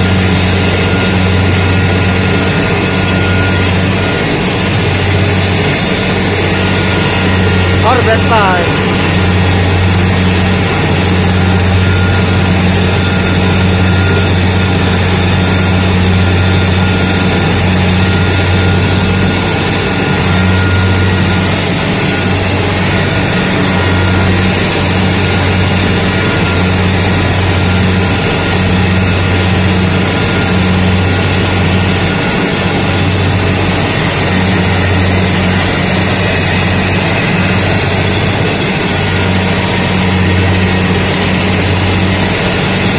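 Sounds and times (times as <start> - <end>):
harvester engine hum: 0.0 - 42.9
threshing machinery noise: 0.0 - 42.9.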